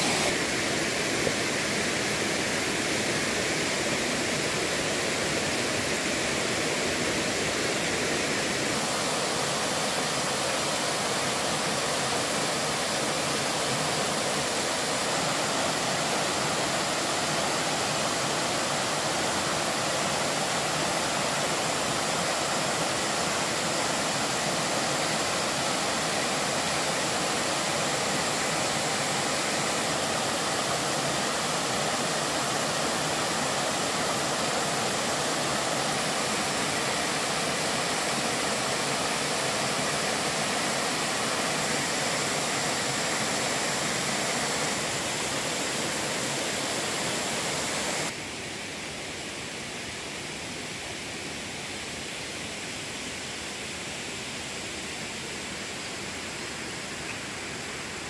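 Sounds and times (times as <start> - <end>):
water rushing over rock ledges: 0.0 - 48.4.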